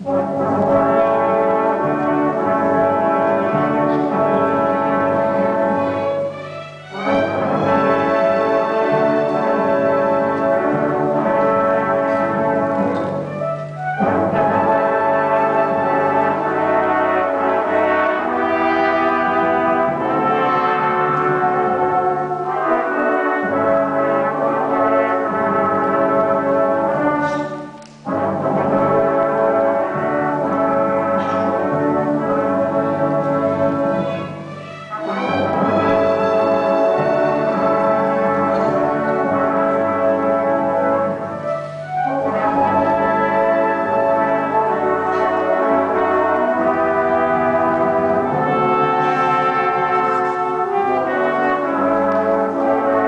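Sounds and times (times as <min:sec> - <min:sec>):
brass section: 0:00.0 - 0:53.0
orchestra playing classical piece: 0:00.0 - 0:53.0
strings: 0:00.0 - 0:53.0.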